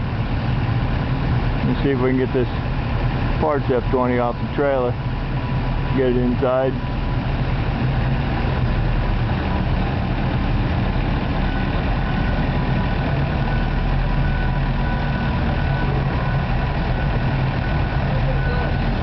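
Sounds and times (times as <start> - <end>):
wheel loader diesel engine running: 0.0 - 19.0.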